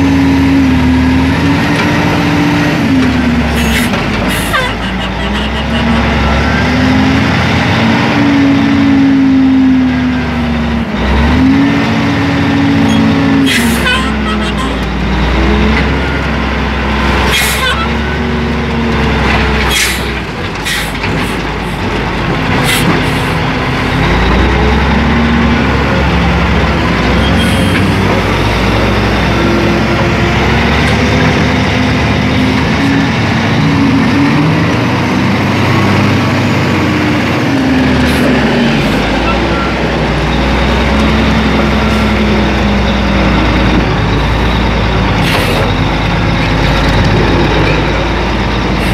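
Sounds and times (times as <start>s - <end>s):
diesel engine revving: 0.0s - 48.9s.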